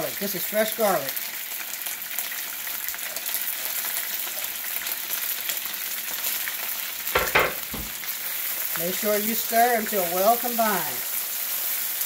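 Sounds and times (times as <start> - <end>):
chicken sizzling in oil: 0.0 - 12.0
garlic crackling in hot pan: 0.0 - 12.0.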